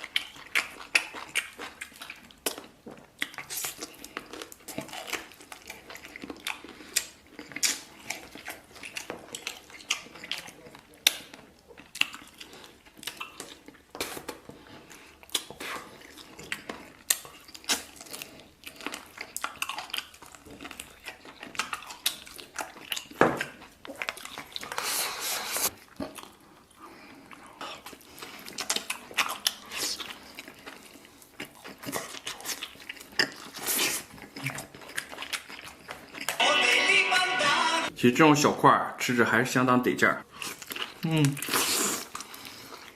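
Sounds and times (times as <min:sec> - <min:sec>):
person chewing and biting: 0:00.0 - 0:36.6, 0:40.3 - 0:42.9.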